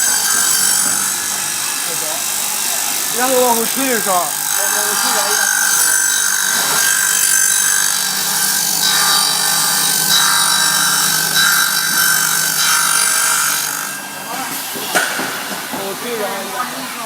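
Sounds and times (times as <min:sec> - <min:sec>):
milling cutter whine and hiss: 0:00.0 - 0:17.0
motor hum: 0:00.0 - 0:17.0.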